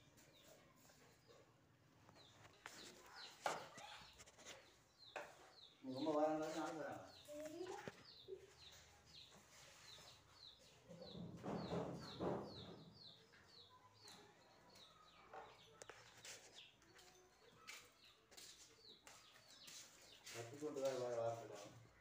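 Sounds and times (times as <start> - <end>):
high bird chirps: 2.2 - 21.0.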